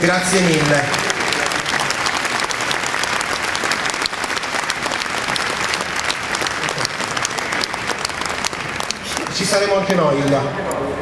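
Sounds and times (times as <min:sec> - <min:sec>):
large crowd applauding: 0:00.0 - 0:10.8.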